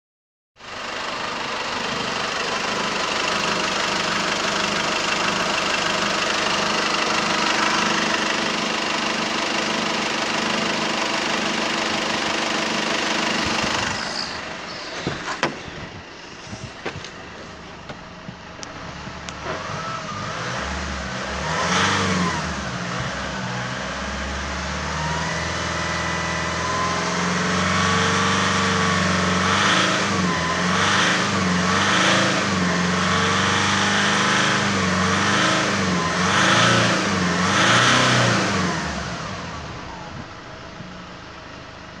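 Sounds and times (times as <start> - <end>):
diesel engine idling and revving: 0.6 - 42.0.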